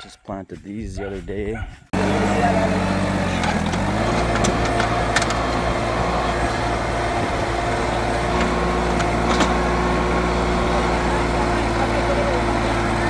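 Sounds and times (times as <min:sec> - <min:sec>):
engine humming steadily: 0:01.9 - 0:13.0.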